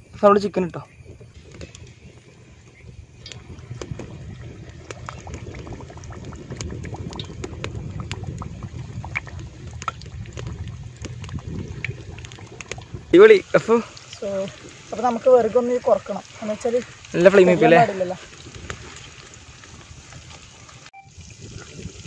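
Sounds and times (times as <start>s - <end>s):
chicken frying in hot oil: 0.4s - 22.0s.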